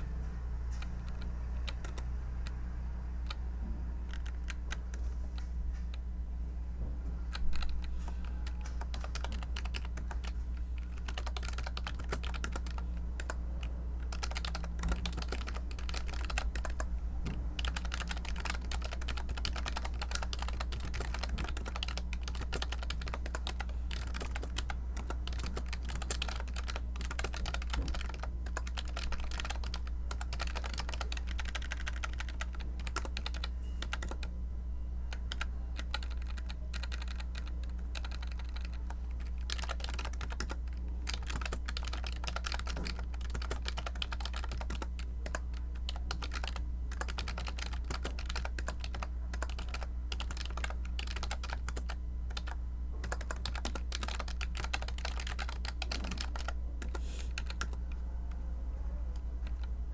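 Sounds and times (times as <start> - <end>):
steady low hum: 0.0 - 59.9
computer keyboard typing: 0.6 - 6.1, 7.3 - 34.3, 35.1 - 58.0, 59.1 - 59.8.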